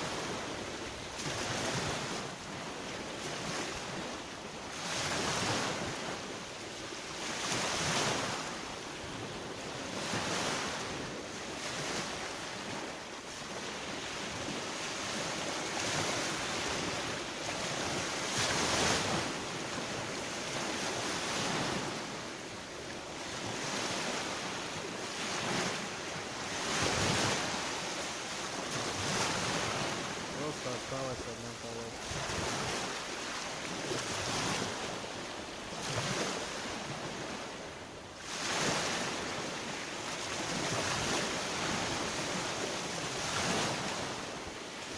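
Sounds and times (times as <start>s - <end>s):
surf washing on shore: 0.0s - 44.9s.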